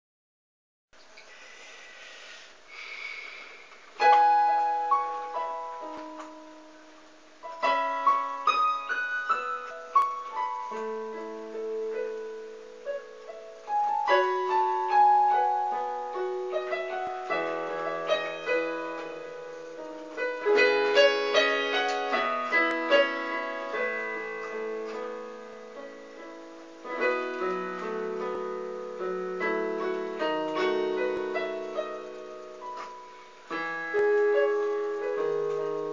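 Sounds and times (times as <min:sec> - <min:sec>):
electronic keyboard piano melody: 0:03.9 - 0:35.9.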